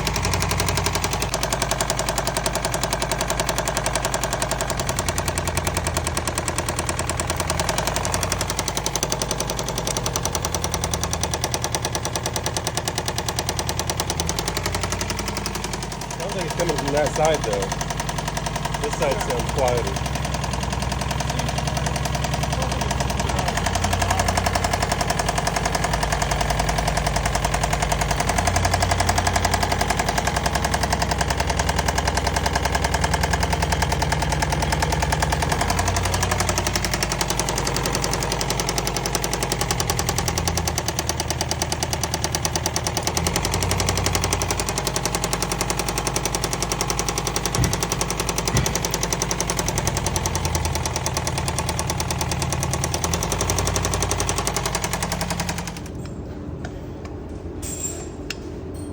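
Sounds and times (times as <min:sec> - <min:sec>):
rapid engine rod knock: 0:00.0 - 0:56.1
car engine running: 0:00.0 - 0:57.6.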